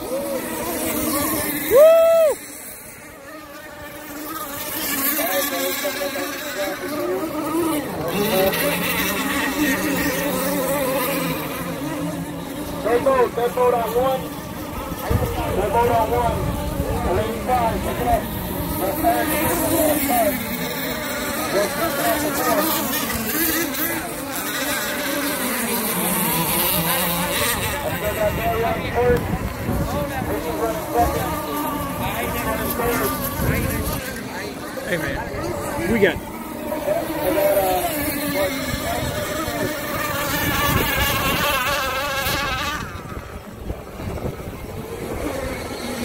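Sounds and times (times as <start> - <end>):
model boat engines buzzing: 0.0 - 46.0.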